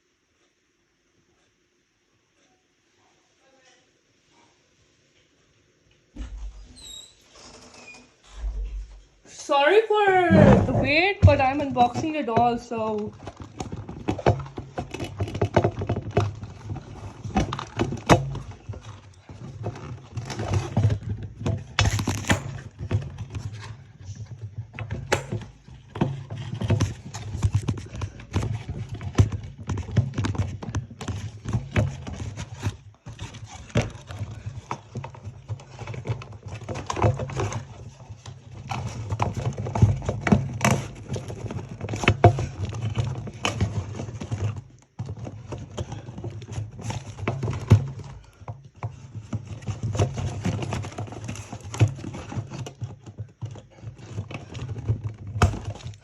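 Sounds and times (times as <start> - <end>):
plastic and cardboard packaging rustling: 10.0 - 56.0.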